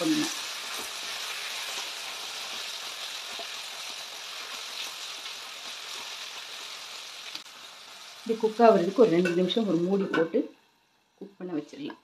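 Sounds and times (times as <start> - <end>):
onions and tomatoes sizzling: 0.0 - 12.0.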